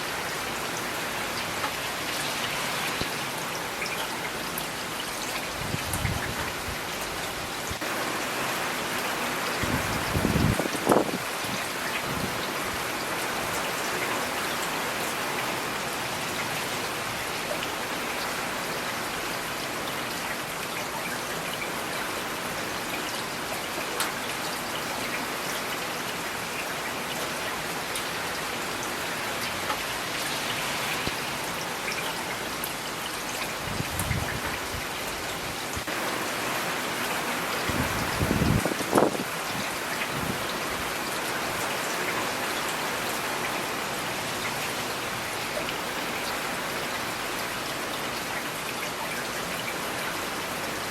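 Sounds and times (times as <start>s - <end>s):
rain pattering on surfaces: 0.0s - 50.9s.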